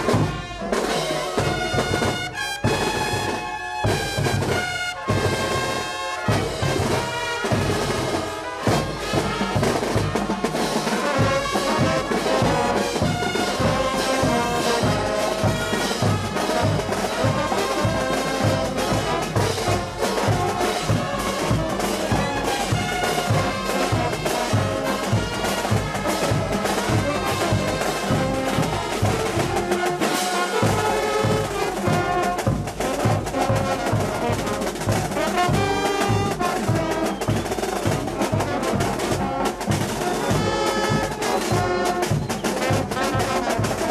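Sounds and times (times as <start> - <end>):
steady drumbeat: 0.0 - 43.9
trumpets and trombones playing: 0.0 - 43.9.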